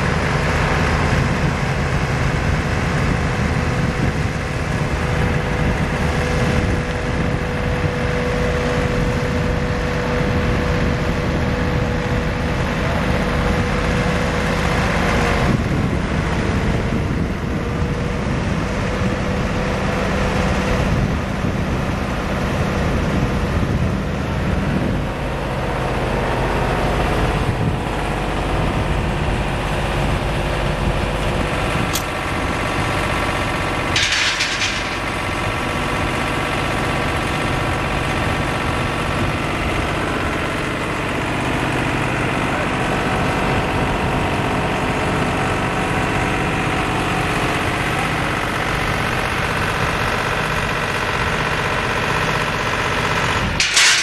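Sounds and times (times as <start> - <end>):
diesel engine running: 0.0 - 54.0
steady whine: 0.0 - 54.0.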